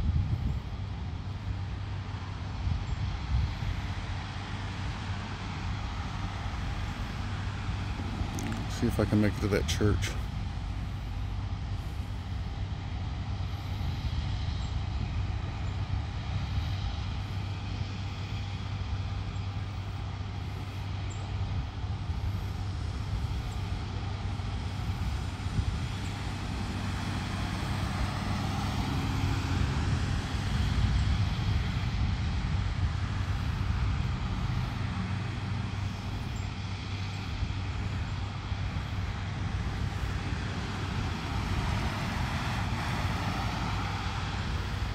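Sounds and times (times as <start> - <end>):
low rumble with hum: 0.0 - 44.9.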